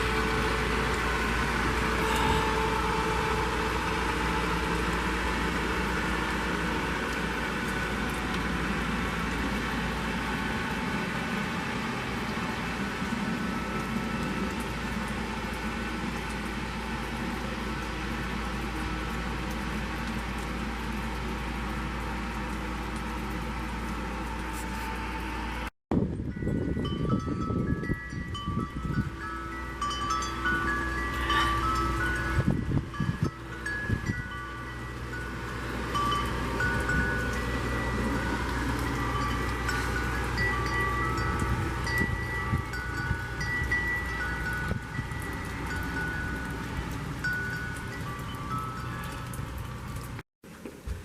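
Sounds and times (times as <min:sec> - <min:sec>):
steady mechanical hum: 0:00.0 - 0:51.0.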